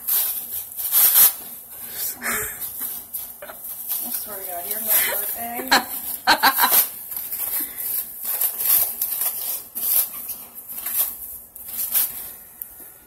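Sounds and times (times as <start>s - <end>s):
cling film crinkling: 0.0s - 1.9s, 2.6s - 12.8s.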